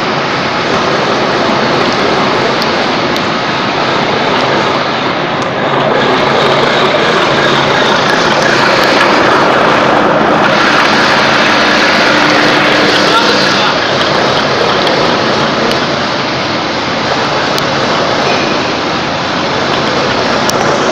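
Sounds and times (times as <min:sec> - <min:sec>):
loud machinery hum: 0:00.0 - 0:20.9.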